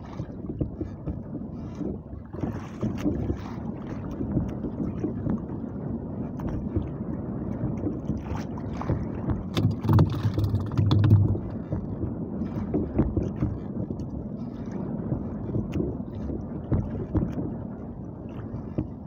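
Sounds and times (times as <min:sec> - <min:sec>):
sea water lapping against boat: 0:00.0 - 0:19.0
wind on microphone: 0:00.0 - 0:19.0.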